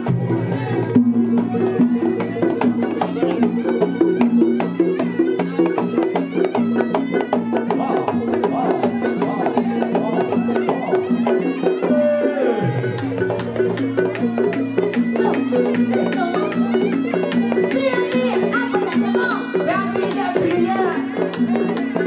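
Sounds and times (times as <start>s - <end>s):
drum and percussion strokes: 0.0s - 22.0s.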